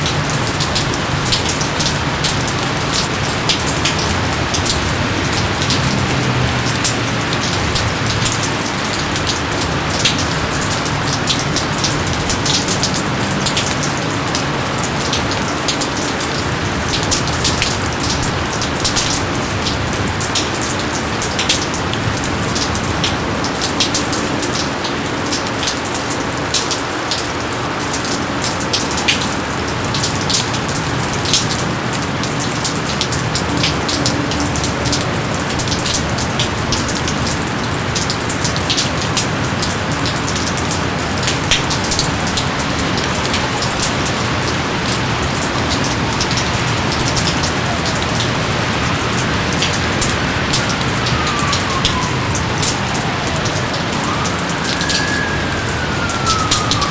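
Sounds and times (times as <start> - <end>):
raindrops ticking close by: 0.0 - 56.9
steady rain hiss: 0.0 - 56.9.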